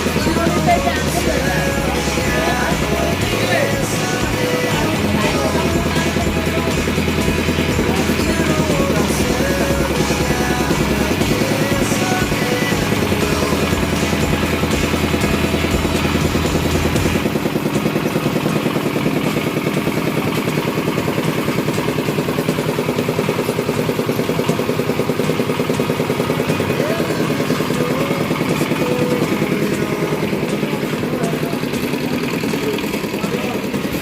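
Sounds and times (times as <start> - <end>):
winch engine pulsing: 0.0 - 34.0.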